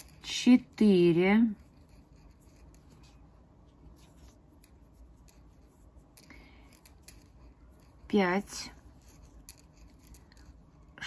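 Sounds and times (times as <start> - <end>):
crochet hook rubbing and ticking: 0.0 - 11.0
low steady hum: 0.0 - 11.0.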